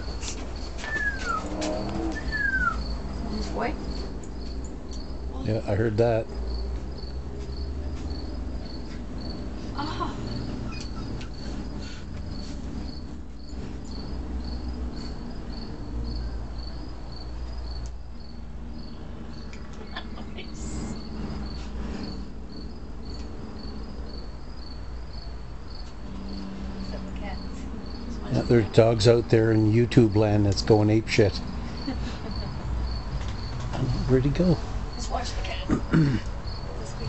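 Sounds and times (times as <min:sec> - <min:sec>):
cricket chirping: 0:00.0 - 0:37.0.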